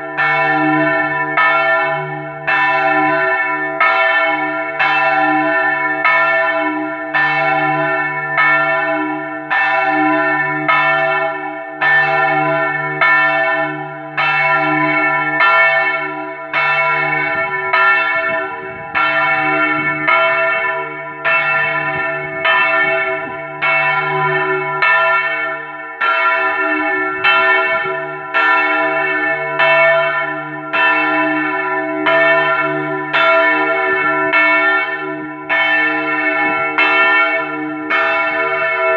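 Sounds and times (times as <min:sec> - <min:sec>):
large church bell ringing: 0:00.0 - 0:38.9.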